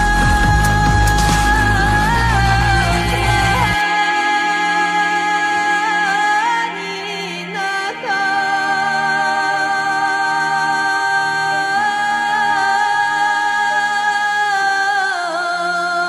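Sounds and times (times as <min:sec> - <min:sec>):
background music of held notes: 0:00.0 - 0:16.0.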